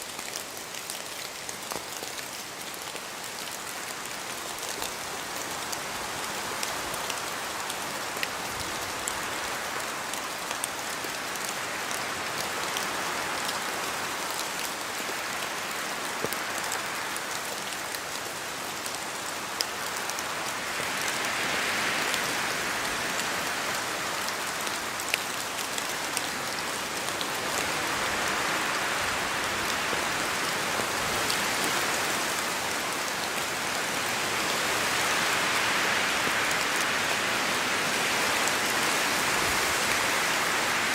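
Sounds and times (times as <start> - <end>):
sharp drips from trees: 0.0 - 40.9
steady rain in forest: 0.0 - 40.9
wind through trees: 0.0 - 40.9.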